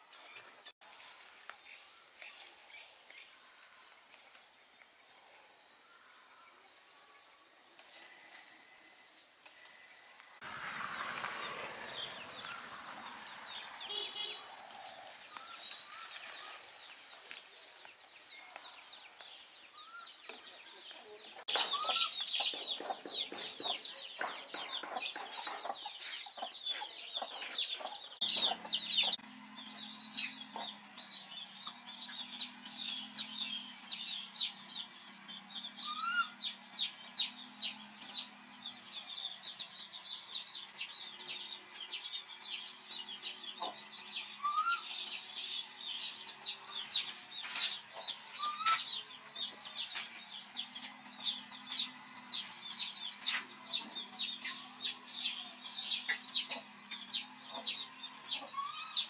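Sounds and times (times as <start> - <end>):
chickens and birds chirping: 0.0 - 59.0.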